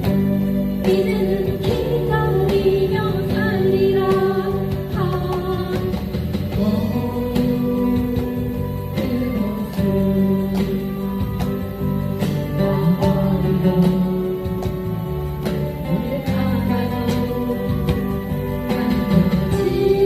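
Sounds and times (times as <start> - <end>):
acoustic guitar band playing: 0.0 - 20.0.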